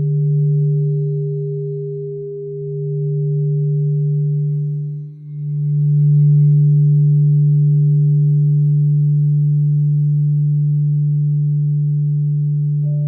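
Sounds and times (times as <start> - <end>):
crystal singing bowl hum: 0.0 - 13.0.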